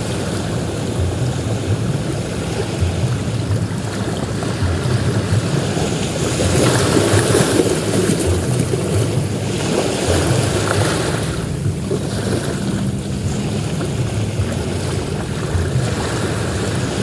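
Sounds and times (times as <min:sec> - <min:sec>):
ocean surf breaking: 0:00.0 - 0:17.0
wind rumble on microphone: 0:00.0 - 0:17.0.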